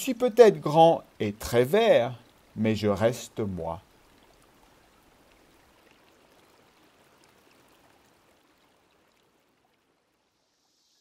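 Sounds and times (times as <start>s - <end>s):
faint steady background hiss: 0.0s - 11.0s.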